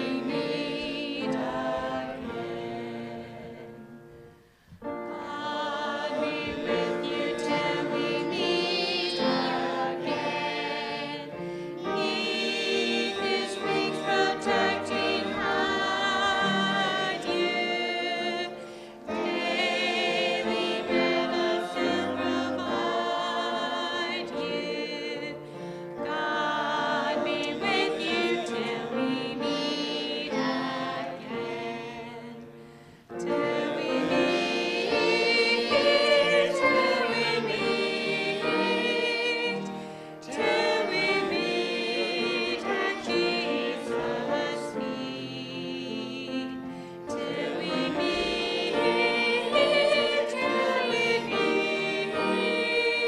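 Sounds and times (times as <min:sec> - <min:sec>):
group singing a hymn: 0:00.0 - 0:53.0.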